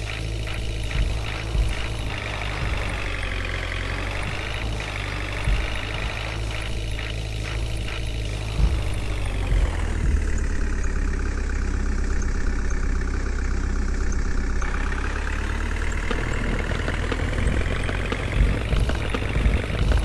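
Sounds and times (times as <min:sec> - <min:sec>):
heavy vehicle engine idling: 0:00.0 - 0:20.0.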